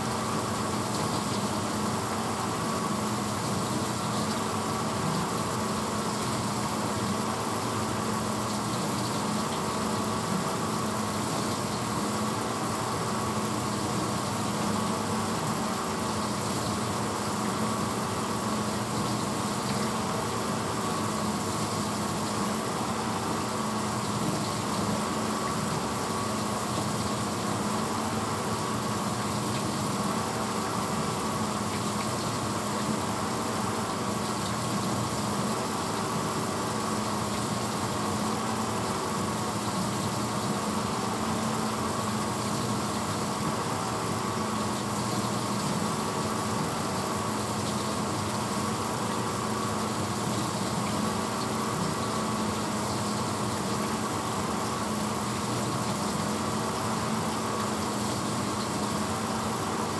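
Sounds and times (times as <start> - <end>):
dishwasher motor hum: 0.0 - 59.9
water spraying inside dishwasher: 0.0 - 59.9.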